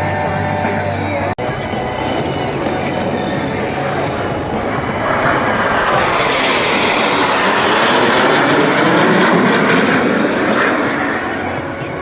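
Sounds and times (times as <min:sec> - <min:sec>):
jets flying past: 0:01.4 - 0:12.0.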